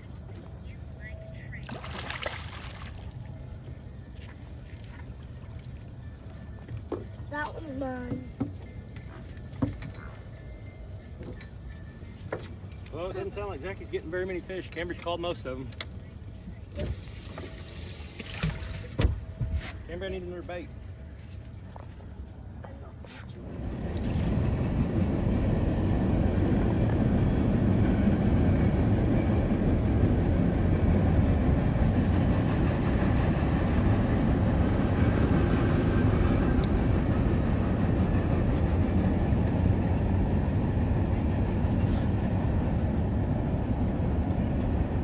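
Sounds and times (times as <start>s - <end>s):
boat engine rumbling: 0.0s - 45.0s.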